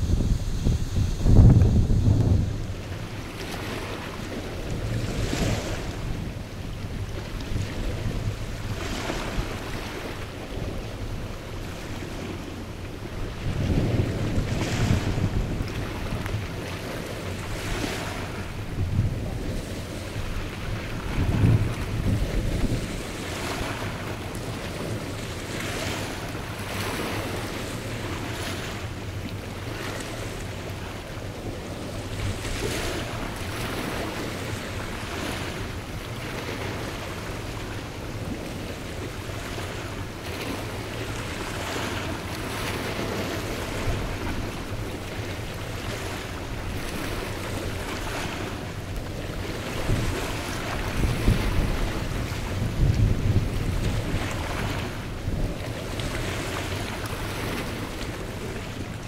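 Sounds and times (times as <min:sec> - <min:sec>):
ship engine drone: 0:00.0 - 0:52.8
wind rushing over microphone: 0:00.0 - 0:59.0.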